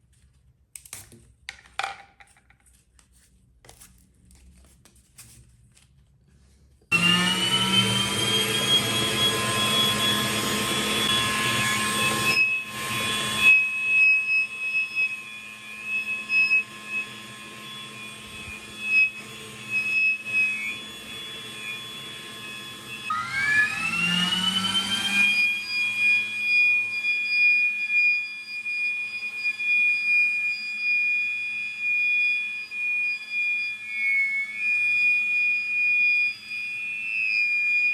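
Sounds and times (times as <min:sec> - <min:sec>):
vacuum cleaner motor whine: 0:06.9 - 0:37.9.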